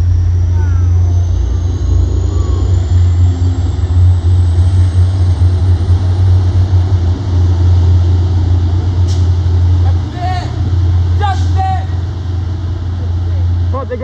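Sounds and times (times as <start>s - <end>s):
diesel locomotive droning: 0.0s - 14.0s.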